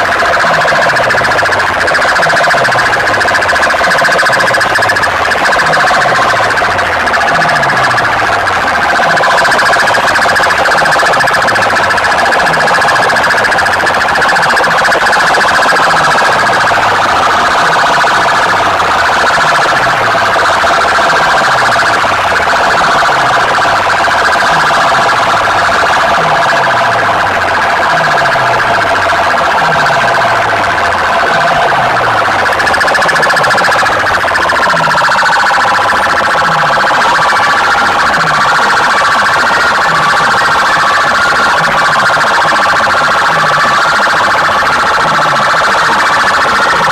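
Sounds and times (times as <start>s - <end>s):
siren-like electronic wailing tone: 0.0s - 46.9s.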